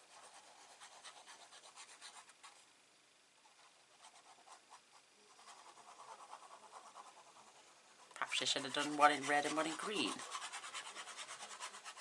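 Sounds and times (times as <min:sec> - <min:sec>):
paper scratching and rubbing: 0:00.0 - 0:02.7, 0:03.4 - 0:12.0.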